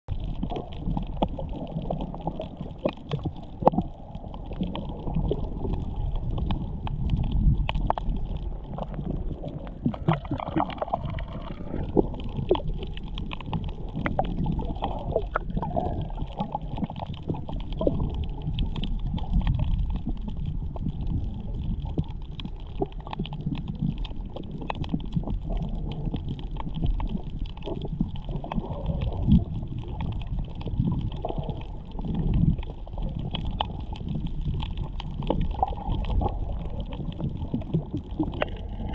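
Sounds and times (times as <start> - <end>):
muffled rumble of moving water: 0.0 - 38.9
underwater clicks and crackles: 0.1 - 38.9.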